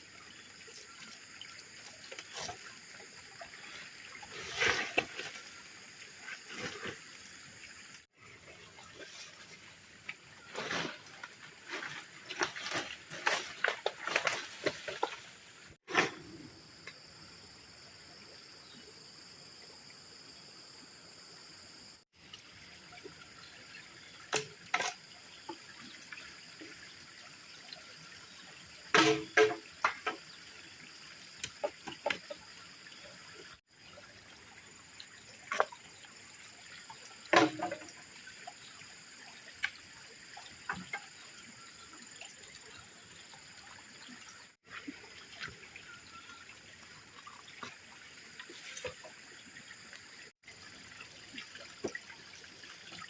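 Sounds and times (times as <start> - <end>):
water trickling: 0.0 - 15.8, 22.2 - 53.0.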